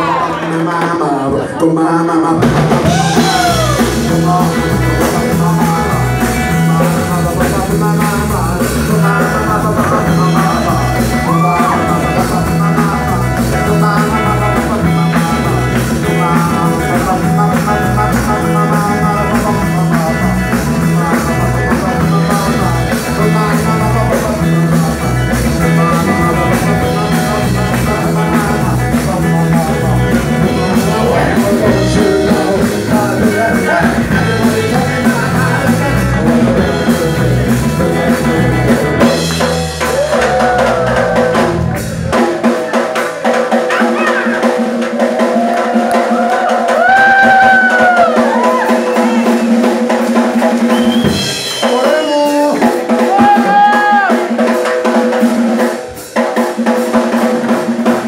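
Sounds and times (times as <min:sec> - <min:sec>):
person singing: 0:00.0 - 0:54.7
live surf rock band: 0:02.3 - 0:58.0.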